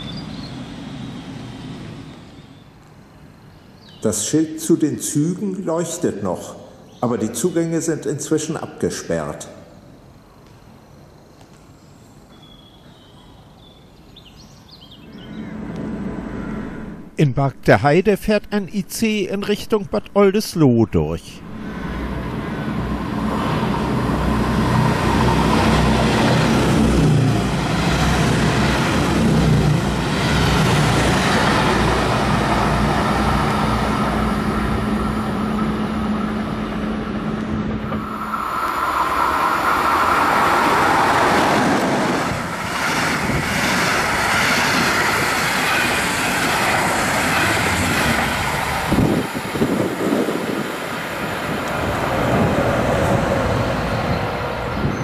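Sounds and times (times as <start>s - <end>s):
train wheels rushing past: 0.0s - 10.0s, 14.6s - 17.2s, 21.4s - 55.0s
train engine hum: 0.0s - 55.0s.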